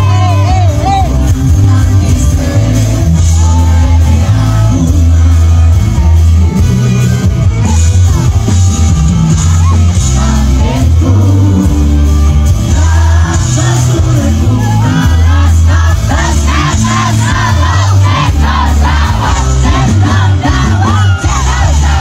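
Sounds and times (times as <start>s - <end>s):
heavy bass line: 0.0s - 22.0s
live band music: 0.0s - 22.0s
man singing: 0.0s - 22.0s.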